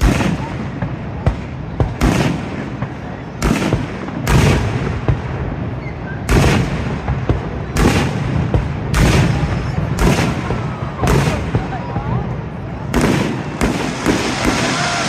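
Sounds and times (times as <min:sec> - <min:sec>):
fireworks booming: 0:00.0 - 0:15.0.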